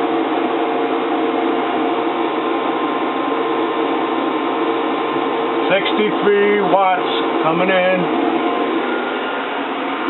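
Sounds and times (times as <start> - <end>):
faint multi-tone hum: 0.0 - 10.0.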